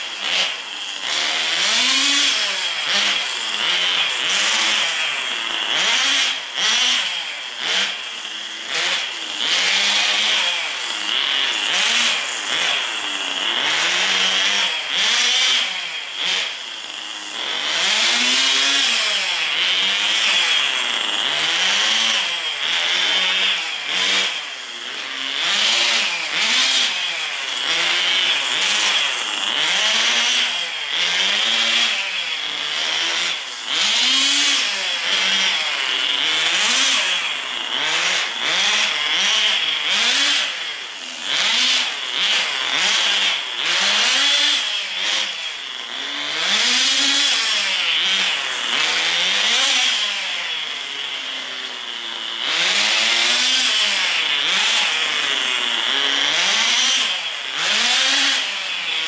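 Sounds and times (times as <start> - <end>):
model car engine buzzing: 0.0 - 59.0.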